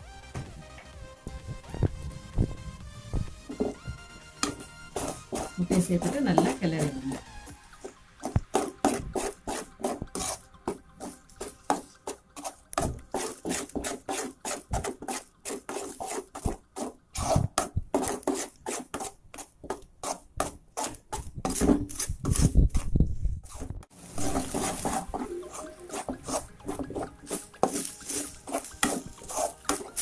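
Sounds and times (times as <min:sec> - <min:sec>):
spatula scraping metal pan: 0:03.4 - 0:22.8, 0:23.4 - 0:30.0.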